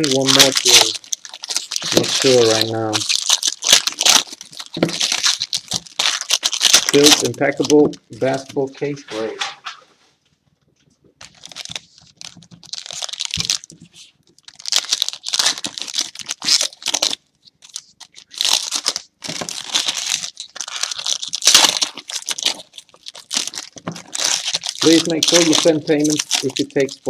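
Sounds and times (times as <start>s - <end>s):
wrapping being torn and crumpled: 0.0s - 9.3s, 11.2s - 27.0s.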